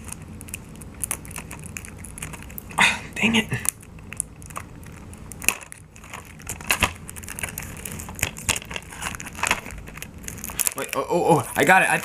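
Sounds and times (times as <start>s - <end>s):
plastic shrink wrap crinkling: 0.0s - 12.0s.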